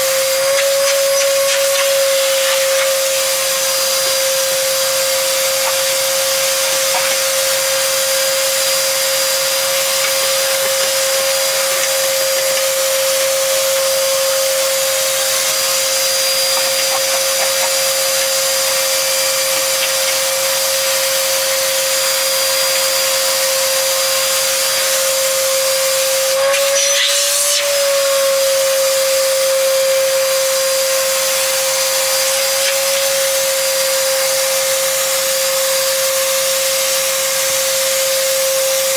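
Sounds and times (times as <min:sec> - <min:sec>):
small motor humming: 0:00.0 - 0:38.9.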